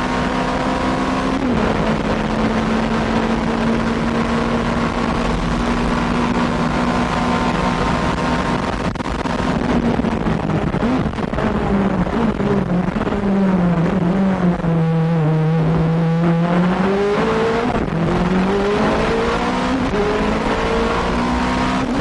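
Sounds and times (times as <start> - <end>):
race car engine at high revs: 0.0 - 22.0
wind and road noise: 0.0 - 22.0.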